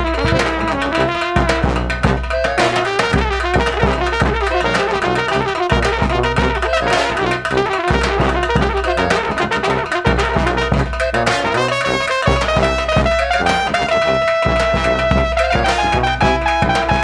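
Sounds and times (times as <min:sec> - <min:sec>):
driving drums: 0:00.0 - 0:17.0
low brass bass line: 0:00.0 - 0:17.0
trumpets and trombones playing: 0:00.0 - 0:17.0.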